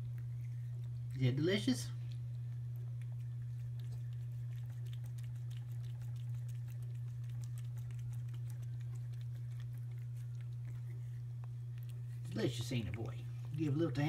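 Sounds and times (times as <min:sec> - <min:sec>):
cat eating wet food: 0:00.0 - 0:14.0
low hum: 0:00.0 - 0:14.0.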